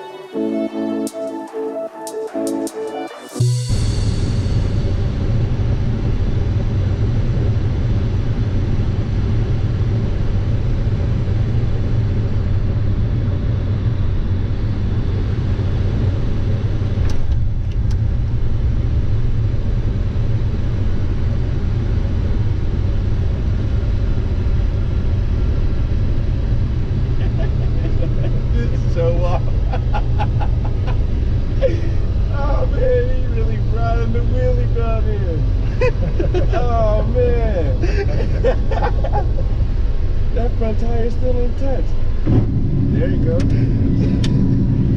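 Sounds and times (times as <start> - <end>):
jet engines and airflow rumble: 0.0 - 44.9.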